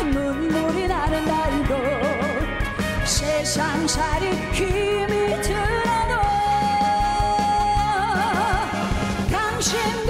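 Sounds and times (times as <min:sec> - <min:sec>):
live band playing: 0:00.0 - 0:10.0
woman singing: 0:00.0 - 0:10.0.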